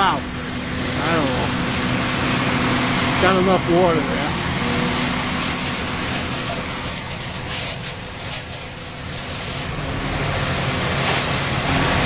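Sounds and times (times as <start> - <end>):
high-pressure water spray hissing: 0.0 - 12.0
truck engine running: 0.0 - 12.0.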